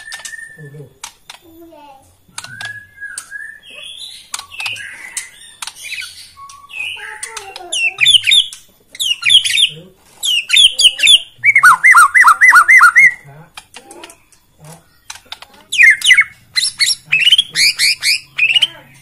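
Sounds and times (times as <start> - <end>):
bird singing: 0.0 - 19.0.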